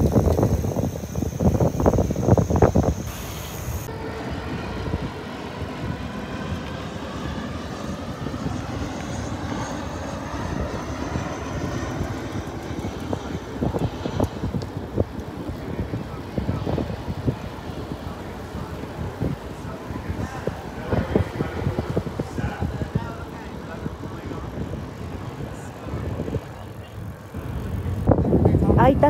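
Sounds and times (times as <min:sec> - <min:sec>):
bicycle tyre road noise: 0:00.0 - 0:29.0
wind buffeting microphone: 0:00.0 - 0:29.0.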